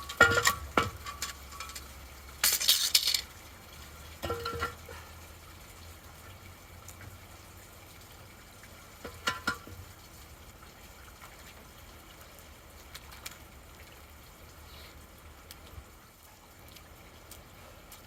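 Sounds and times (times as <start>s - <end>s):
rainwater trickling into drain: 0.0s - 18.0s.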